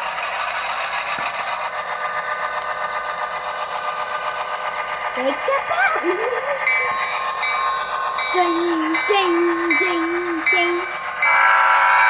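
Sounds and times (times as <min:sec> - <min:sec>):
model locomotive diesel engine sound: 0:00.0 - 0:12.0
motor and wheel noise: 0:00.0 - 0:12.0.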